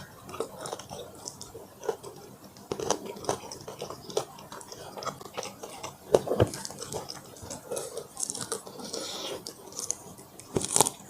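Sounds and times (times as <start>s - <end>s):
wet chewing: 0.0s - 11.0s
crunchy bites: 0.3s - 11.0s.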